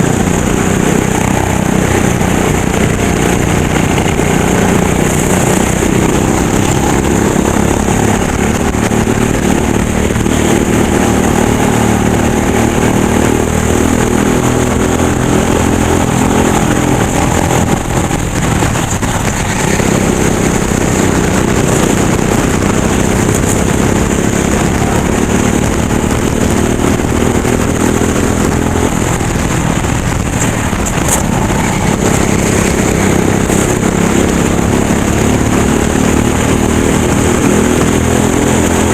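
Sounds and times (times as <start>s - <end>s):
racing kart engine revving: 0.0s - 38.9s.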